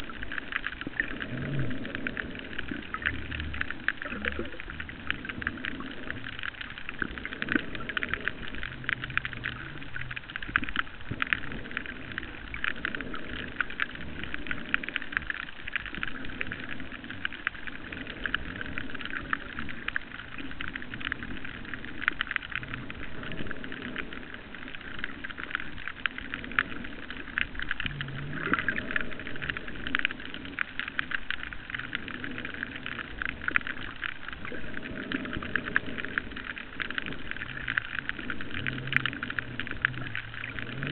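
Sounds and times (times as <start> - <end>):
muffled low underwater rushing: 0.0 - 40.9.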